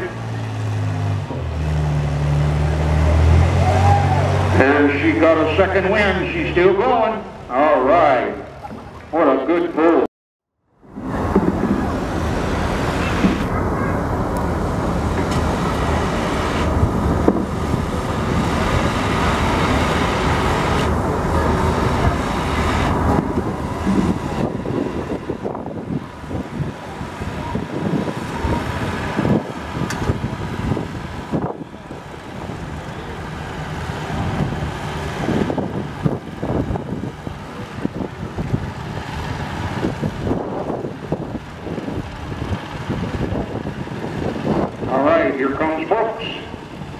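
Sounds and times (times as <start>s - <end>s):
tractor diesel engine under load: 0.0s - 10.0s, 10.8s - 46.9s.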